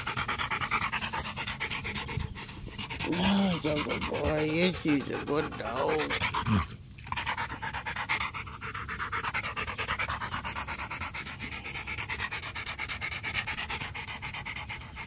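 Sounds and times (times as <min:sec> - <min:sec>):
dog panting fast: 0:00.0 - 0:15.0.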